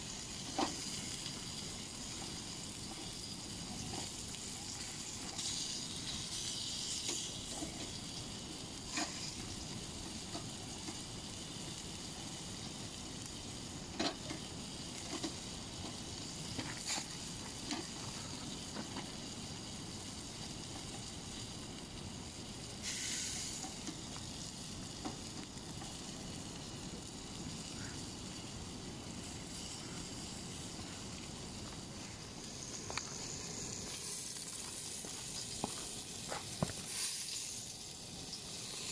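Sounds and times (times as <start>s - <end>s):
meat sizzling on a grill: 0.0s - 38.9s.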